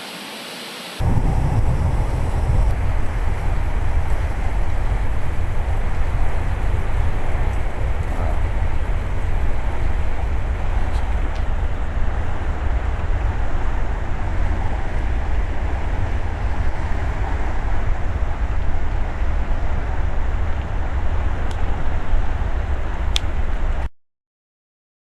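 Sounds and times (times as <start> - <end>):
river rushing roar: 0.0 - 23.9
deep rumble: 1.0 - 23.9.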